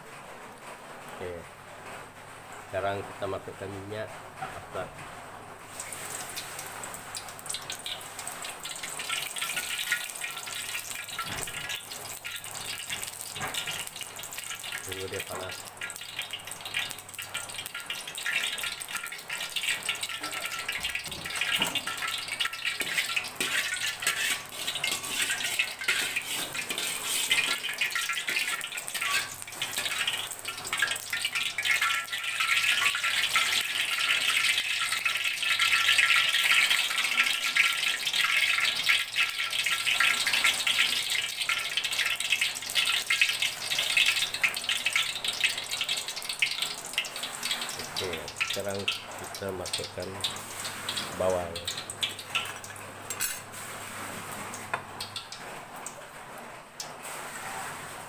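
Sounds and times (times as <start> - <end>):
oil sizzling in a wok: 5.6 - 58.0.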